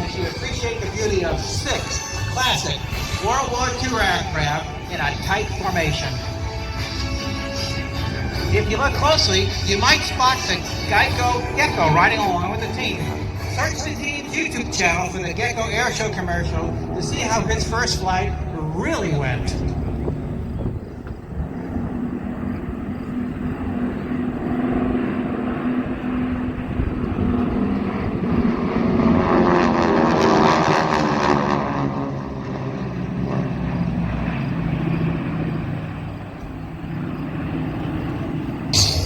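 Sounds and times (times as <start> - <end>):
propeller planes droning overhead: 0.0 - 39.0.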